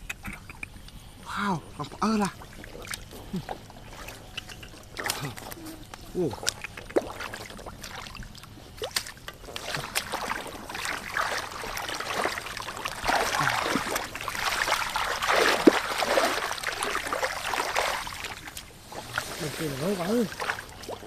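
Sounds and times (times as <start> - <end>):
hands sloshing through mud and water: 1.8 - 21.0.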